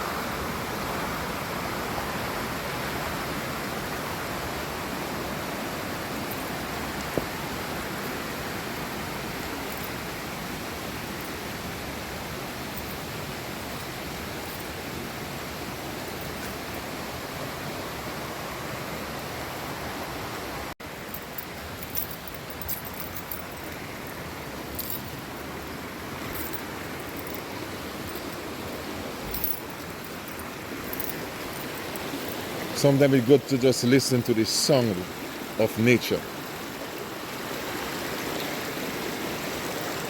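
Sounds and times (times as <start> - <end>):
flowing water rushing: 0.0 - 40.0.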